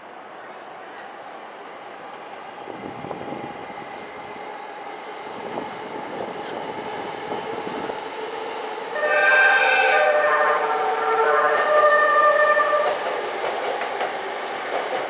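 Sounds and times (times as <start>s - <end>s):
electric trains rumbling on tracks: 0.0s - 15.0s.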